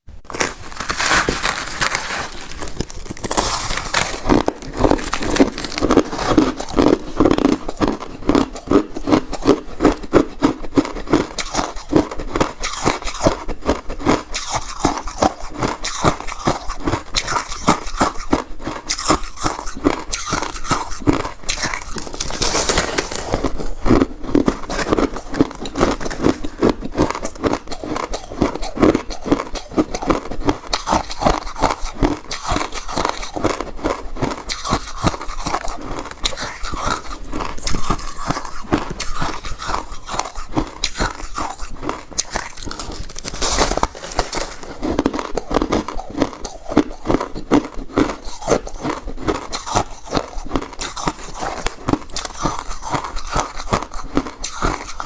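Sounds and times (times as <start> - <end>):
chewing crushed ice: 0.3 - 55.0.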